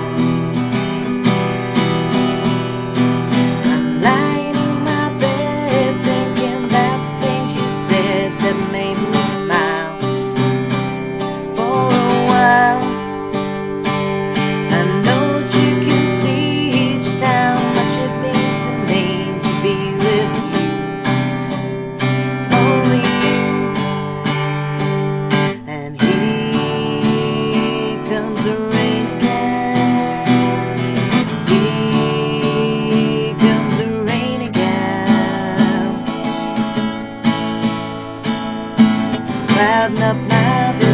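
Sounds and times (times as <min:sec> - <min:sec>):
acoustic guitar strumming: 0:00.0 - 0:40.9.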